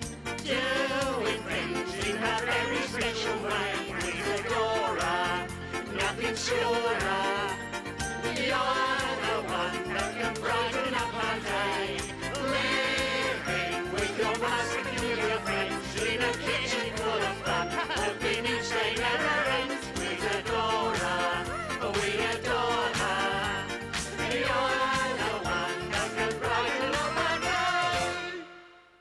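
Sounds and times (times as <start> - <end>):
upbeat theme song: 0.0 - 28.8.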